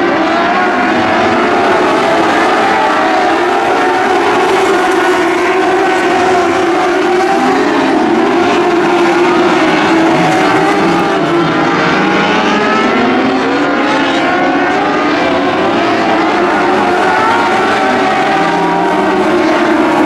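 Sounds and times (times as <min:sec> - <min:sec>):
small race car engines revving: 0:00.0 - 0:20.0.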